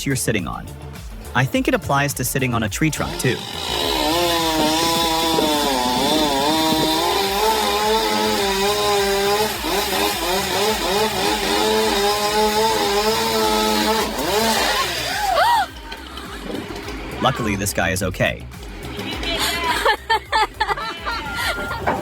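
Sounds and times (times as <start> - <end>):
chainsaw engine cutting: 2.6 - 17.8, 18.4 - 22.0.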